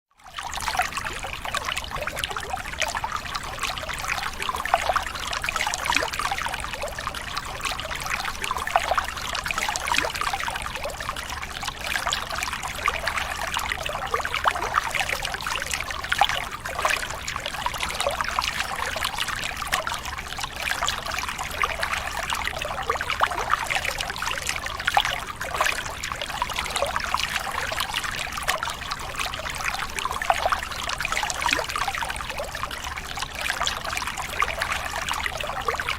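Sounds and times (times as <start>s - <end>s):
water trickling and babbling: 0.1s - 35.9s.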